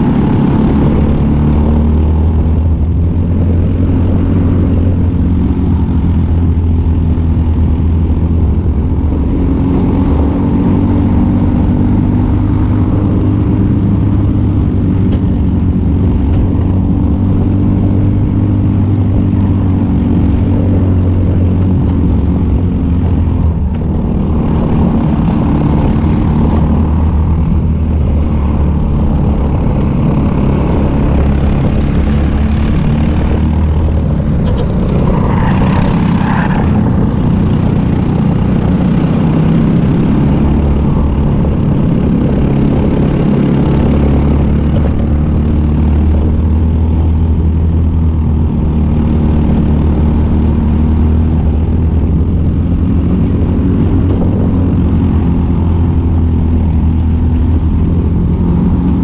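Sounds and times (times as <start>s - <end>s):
kart engine at high revs: 0.0s - 59.0s
wind noise on microphone: 0.0s - 59.0s.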